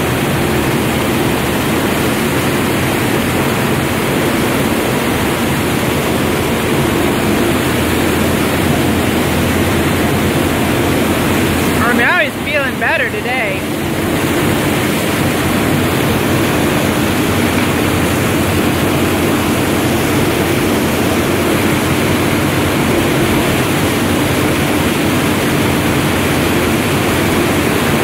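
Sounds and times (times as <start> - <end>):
boat engine hum: 0.0 - 28.0
churning boat wake water: 0.0 - 28.0.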